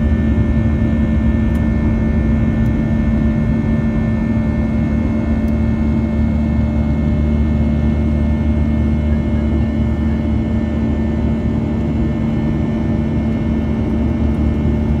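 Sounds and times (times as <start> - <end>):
jet engine drone: 0.0 - 15.0.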